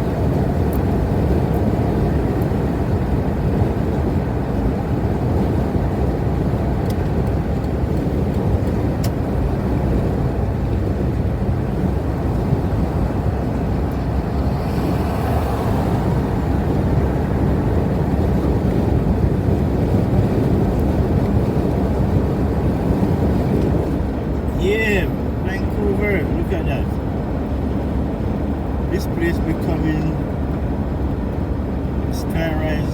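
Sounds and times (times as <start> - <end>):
engine and tyre road rumble: 0.0 - 32.9.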